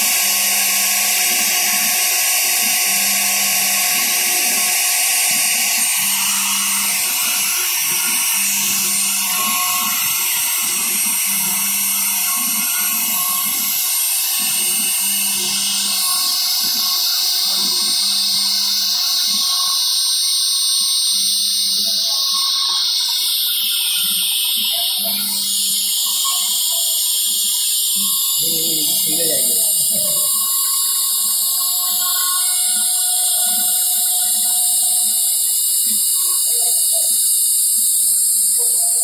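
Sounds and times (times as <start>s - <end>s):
axis motor hum: 0.0s - 39.0s
router spindle whine: 0.0s - 39.0s.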